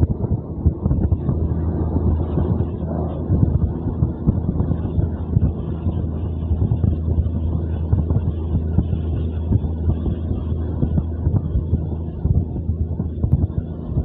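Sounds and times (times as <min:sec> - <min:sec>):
train low drone: 0:00.0 - 0:14.0
wind buffeting microphone: 0:00.0 - 0:14.0.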